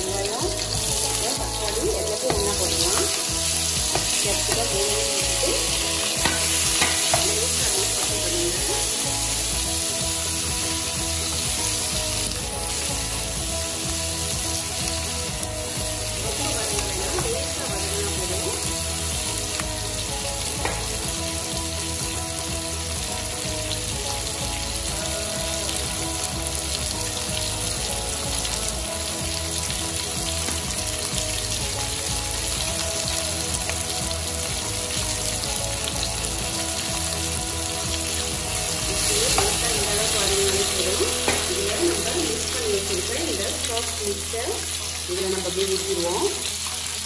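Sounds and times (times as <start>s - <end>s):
background music: 0.0s - 47.0s
vegetables sizzling in oil: 0.0s - 47.0s.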